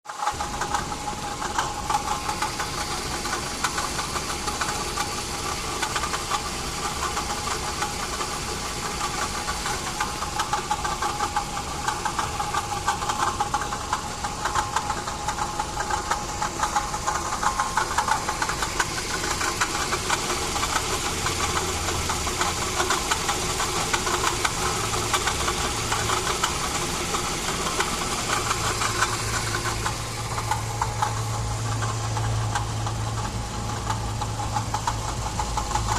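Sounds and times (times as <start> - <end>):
car engine running with whine: 0.1 - 35.9
fast fine rattle: 0.1 - 35.9.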